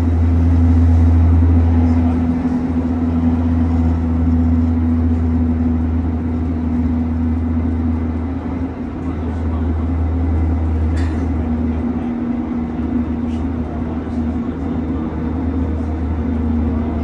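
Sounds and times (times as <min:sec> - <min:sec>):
train interior rumble and hum: 0:00.0 - 0:17.0.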